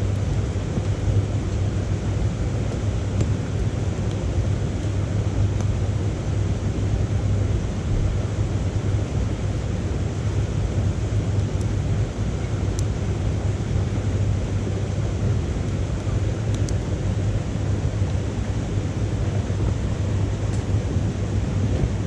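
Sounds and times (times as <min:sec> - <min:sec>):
steady low rumbling: 0:00.0 - 0:22.0
wood crackling in stove: 0:00.0 - 0:22.0.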